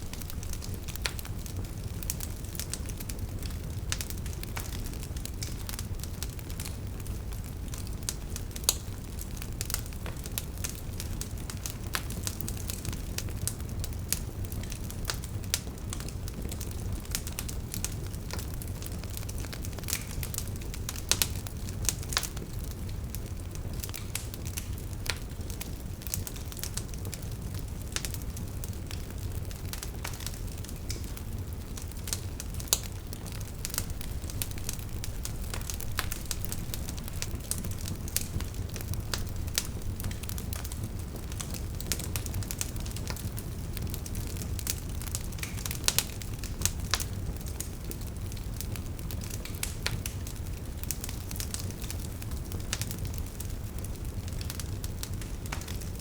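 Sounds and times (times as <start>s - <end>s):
logs crackling and snapping: 0.0s - 56.0s
loud pops of fire: 0.0s - 56.0s
low rumble of flames: 0.0s - 56.0s.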